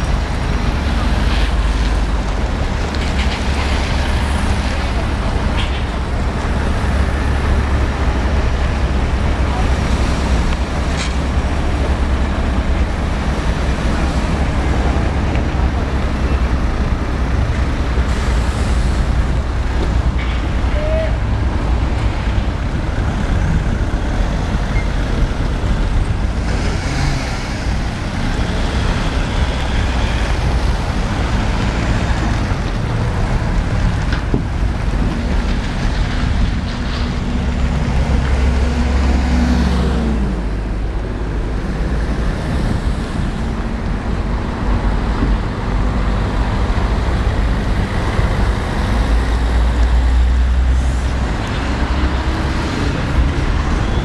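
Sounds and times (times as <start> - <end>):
bus engine hum: 0.0 - 54.0
cars driving past: 0.0 - 54.0.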